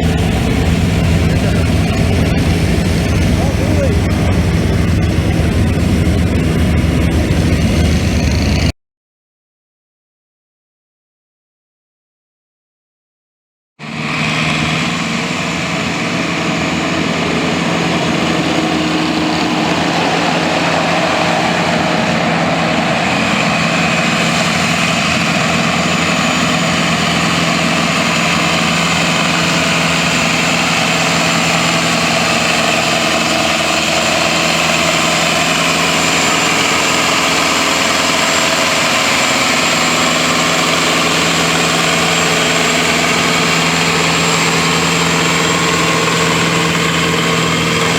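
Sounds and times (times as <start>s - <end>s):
tractor engine running: 0.0s - 8.7s, 13.8s - 47.9s.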